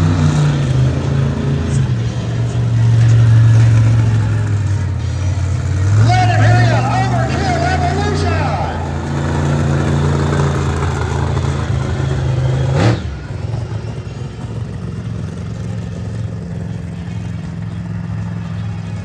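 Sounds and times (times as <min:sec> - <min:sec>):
truck engine at high revs: 0:00.0 - 0:19.0.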